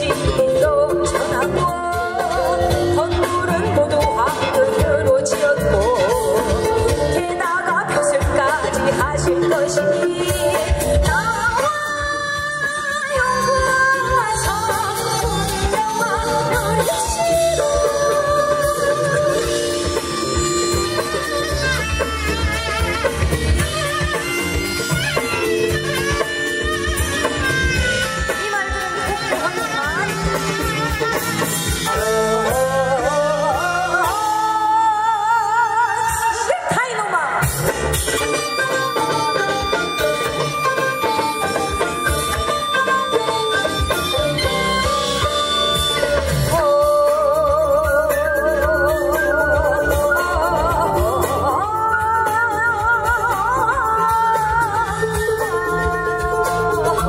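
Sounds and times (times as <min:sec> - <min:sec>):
amplified backing music: 0:00.0 - 0:57.0
folk song accompaniment with beat: 0:00.0 - 0:57.0
woman singing into a microphone: 0:00.0 - 0:57.0.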